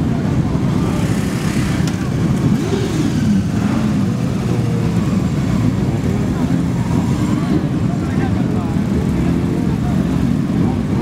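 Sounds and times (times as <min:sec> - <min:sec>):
motorcycle engines passing: 0:00.0 - 0:11.0
voices: 0:00.0 - 0:11.0.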